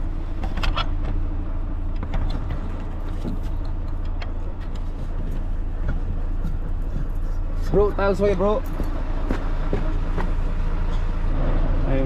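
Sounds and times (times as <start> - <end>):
fire truck engine idling: 0.0 - 11.4.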